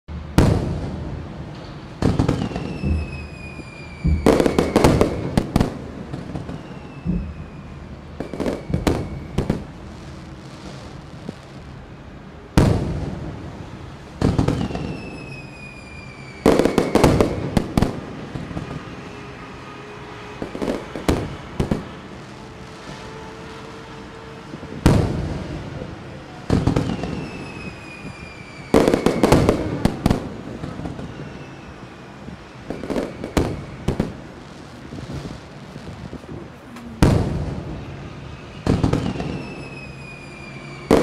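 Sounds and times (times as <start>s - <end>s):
fireworks bangs and crackles: 0.1s - 41.0s
firework whistles falling in pitch: 2.1s - 11.0s, 14.2s - 34.3s, 36.7s - 41.0s.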